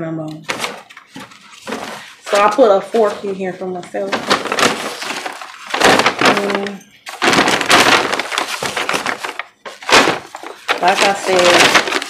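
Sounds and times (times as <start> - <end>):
paper bag crinkling and rustling: 0.5 - 12.0.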